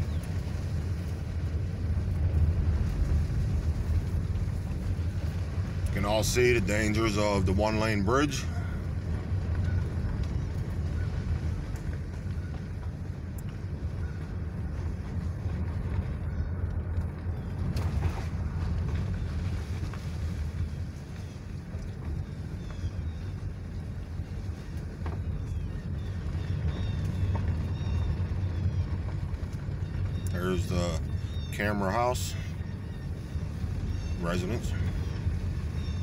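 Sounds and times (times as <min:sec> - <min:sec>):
car tyres and engine rumble: 0:00.0 - 0:36.0.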